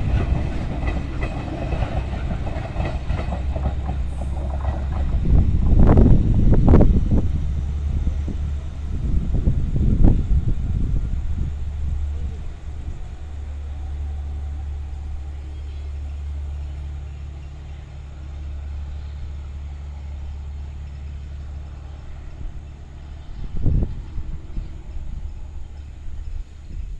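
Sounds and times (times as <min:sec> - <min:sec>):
diesel train engine droning: 0:00.0 - 0:26.9.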